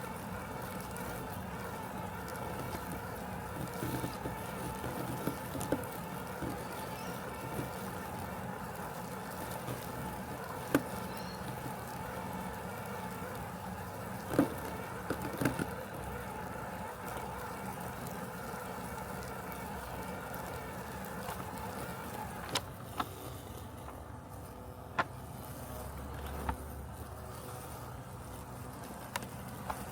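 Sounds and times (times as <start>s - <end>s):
robotic lawn mower humming: 0.0s - 29.9s.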